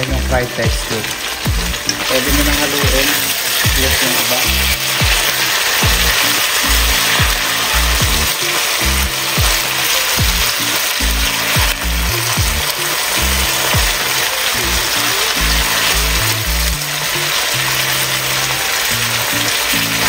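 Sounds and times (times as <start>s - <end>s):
meat sizzling in hot oil: 0.0s - 20.0s
music with bass beat: 0.0s - 20.0s.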